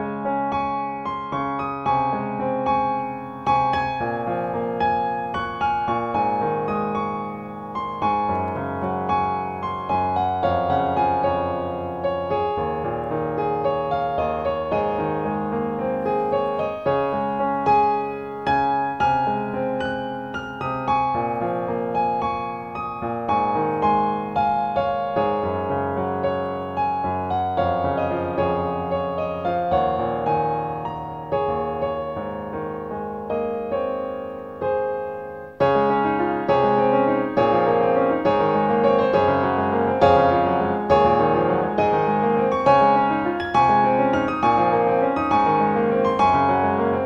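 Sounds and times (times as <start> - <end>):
piano background music: 0.0 - 47.0.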